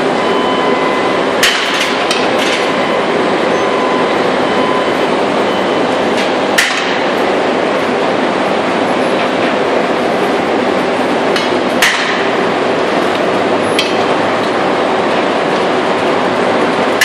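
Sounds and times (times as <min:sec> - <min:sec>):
metal-casting machinery running: 0:00.0 - 0:17.0.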